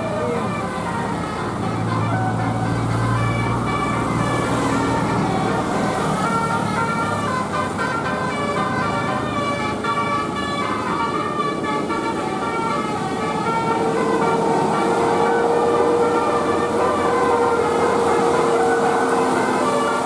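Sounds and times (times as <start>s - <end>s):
low engine hum: 0.0s - 20.0s
musical bus horn tune: 0.0s - 20.0s.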